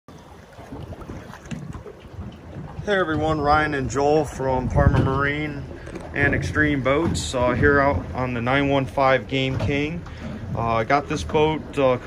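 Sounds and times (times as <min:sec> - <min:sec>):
water lapping against boat hull: 0:00.1 - 0:12.0
wind buffeting microphone: 0:00.1 - 0:12.0.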